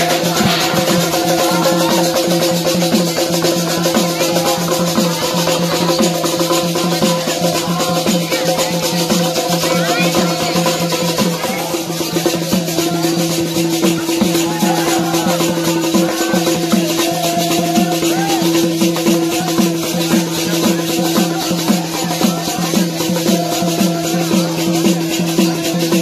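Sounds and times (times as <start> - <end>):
drum beating fast rhythm: 0.0 - 26.0
jingling percussion: 0.0 - 26.0.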